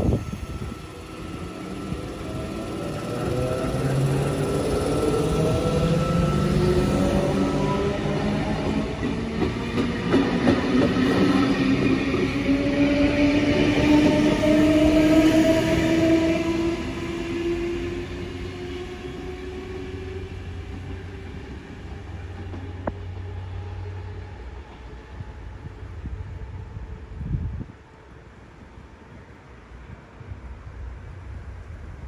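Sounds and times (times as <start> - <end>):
carriages rumbling on rails: 0.0 - 32.0.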